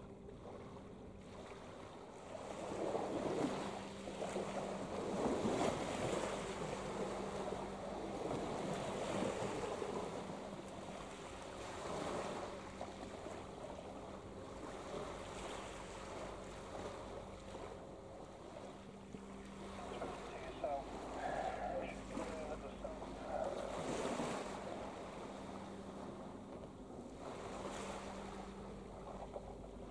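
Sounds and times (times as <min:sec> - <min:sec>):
ship engines droning: 0:00.0 - 0:29.9
water noise: 0:00.0 - 0:29.9
wind: 0:00.0 - 0:29.9.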